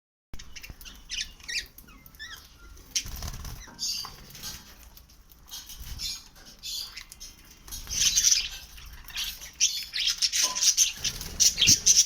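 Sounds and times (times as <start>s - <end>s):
lovebirds chirping: 0.4s - 12.0s.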